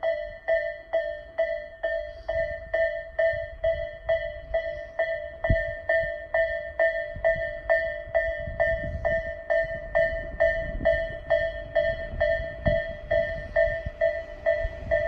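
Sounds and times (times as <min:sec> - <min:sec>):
level crossing warning bell: 0:00.0 - 0:15.0
low rumble of approaching train: 0:00.0 - 0:15.0.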